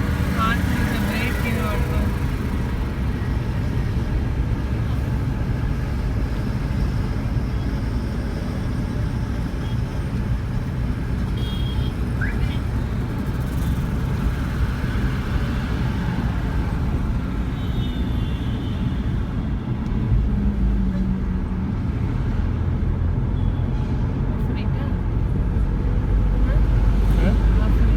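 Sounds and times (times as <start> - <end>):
vehicle engine and road noise: 0.0 - 27.9.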